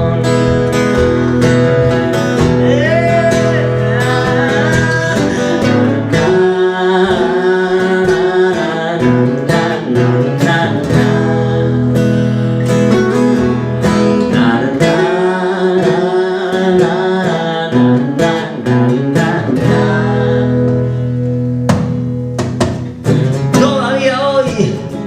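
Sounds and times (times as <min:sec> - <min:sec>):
acoustic guitar strummed chords: 0:00.0 - 0:25.0
wavering guitar melody: 0:00.0 - 0:25.0.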